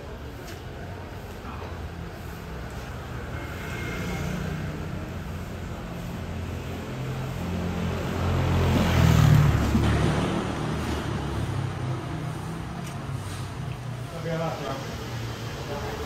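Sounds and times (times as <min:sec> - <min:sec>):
low hum of traffic: 0:00.0 - 0:16.0
passing vehicle engine: 0:02.1 - 0:16.0.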